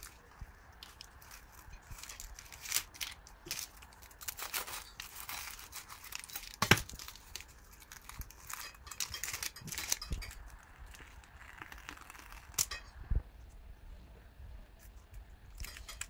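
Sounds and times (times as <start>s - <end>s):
pastry crackling and crunching: 0.0s - 13.2s, 14.8s - 16.0s.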